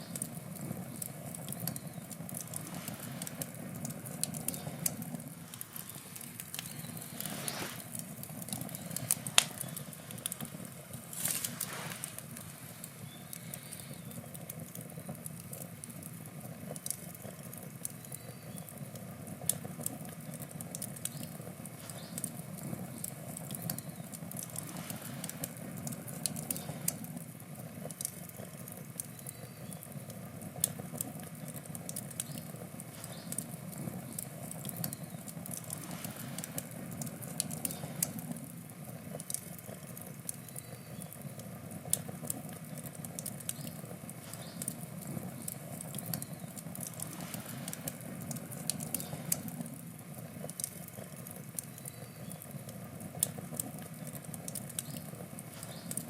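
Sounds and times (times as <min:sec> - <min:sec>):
campfire crackling and popping: 0:00.0 - 0:56.0
low rush of flame: 0:00.0 - 0:56.0.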